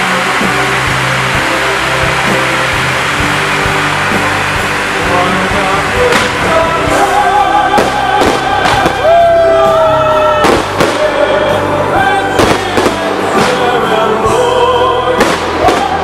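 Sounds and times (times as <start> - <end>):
fireworks bangs: 0.0 - 9.7, 10.4 - 14.3, 15.2 - 16.0
loud music: 0.0 - 16.0.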